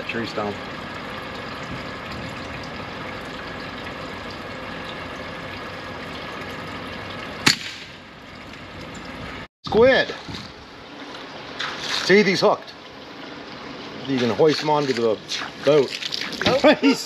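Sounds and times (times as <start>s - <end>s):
water: 0.0s - 17.0s.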